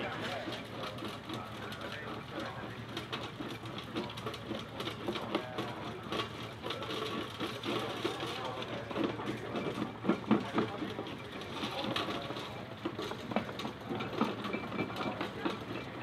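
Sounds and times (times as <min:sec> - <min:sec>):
machinery clattering: 0:00.0 - 0:16.0
people talking: 0:00.0 - 0:16.0.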